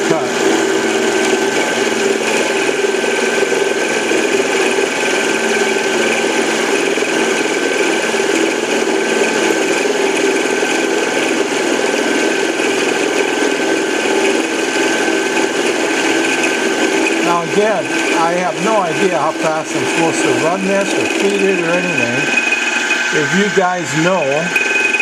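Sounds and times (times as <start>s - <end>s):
lathe milling metal with high whine: 0.0s - 25.0s.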